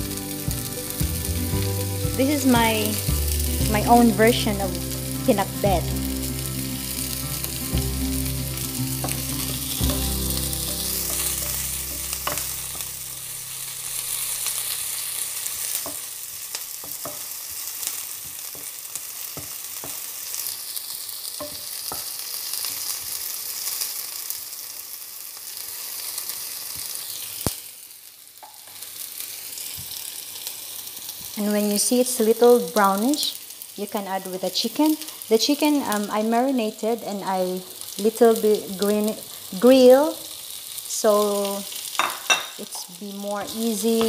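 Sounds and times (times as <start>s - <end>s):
onions sizzling in a frying pan: 0.0s - 44.0s.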